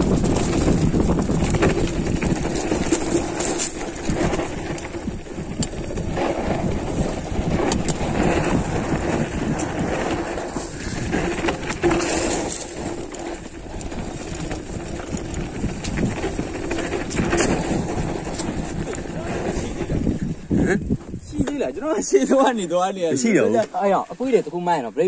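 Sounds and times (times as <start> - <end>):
bike clicks and rattles: 0.0 - 23.9
bike tyres rumbling on dirt: 0.0 - 24.7.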